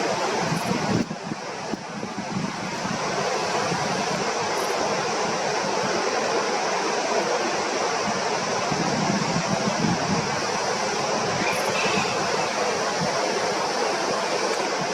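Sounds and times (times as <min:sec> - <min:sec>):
steady rushing noise: 0:00.0 - 0:14.9.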